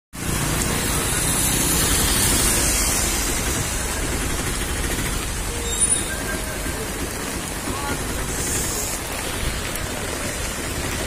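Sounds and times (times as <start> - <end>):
heavy rain on a road: 0.2 - 11.0
vehicles rumbling past: 0.2 - 11.0.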